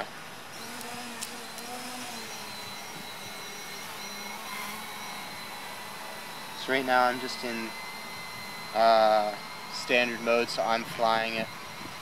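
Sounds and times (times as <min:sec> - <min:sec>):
quadcopter propellers whirring: 0:00.0 - 0:12.0.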